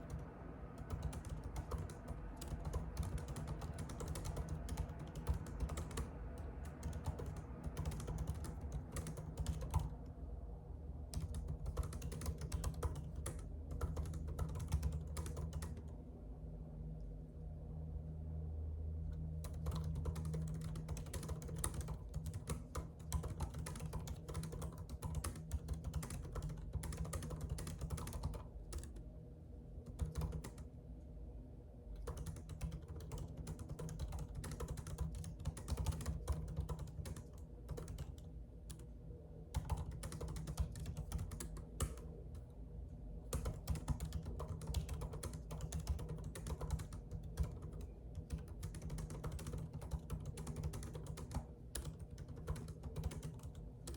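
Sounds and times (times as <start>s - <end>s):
typing on a keyboard: 0.0s - 10.0s, 11.1s - 16.0s, 19.1s - 29.0s, 29.8s - 30.7s, 32.0s - 38.9s, 39.5s - 42.5s, 43.3s - 53.9s
steady low hum: 0.0s - 53.9s.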